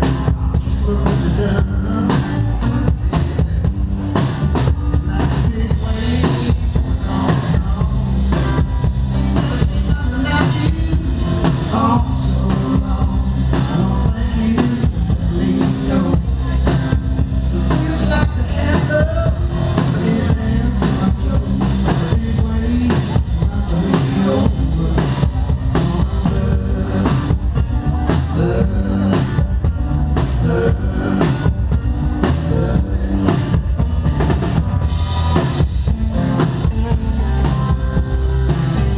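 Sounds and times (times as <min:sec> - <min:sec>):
drum kit steady beat: 0:00.0 - 0:38.9
heavy bass line: 0:00.0 - 0:38.9
live rock band playing: 0:00.0 - 0:38.9.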